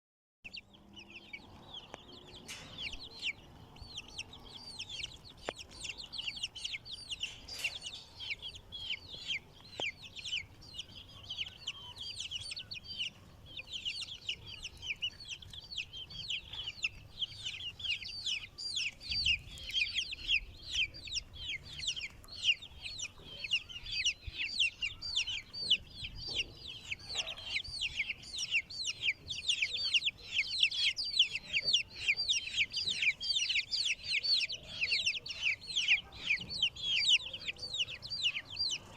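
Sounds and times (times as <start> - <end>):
baby chicks peeping: 0.4 - 38.9.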